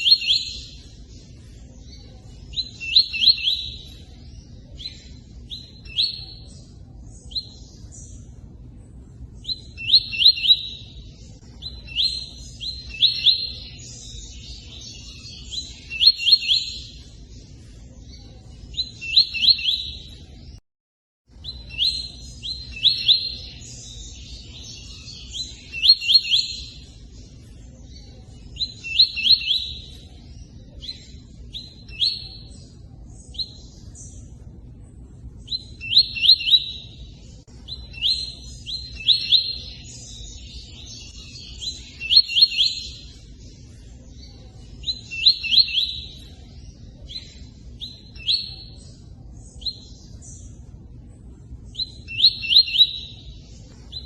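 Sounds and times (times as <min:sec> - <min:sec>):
bird chirping: 0:00.0 - 0:20.6, 0:21.3 - 0:54.0.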